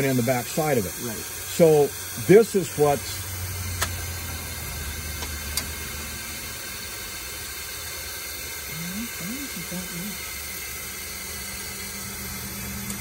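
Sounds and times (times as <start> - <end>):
compressed air hissing: 0.0 - 12.6.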